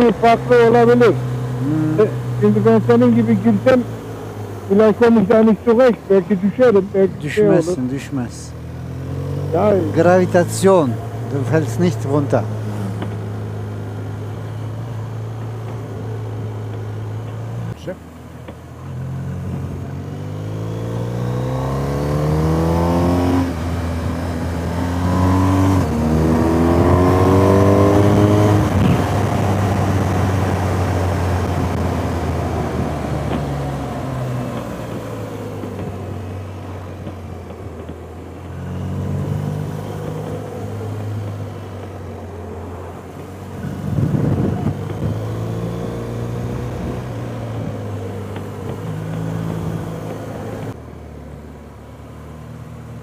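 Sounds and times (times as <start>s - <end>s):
motorcycle engine accelerating: 0.0s - 50.8s.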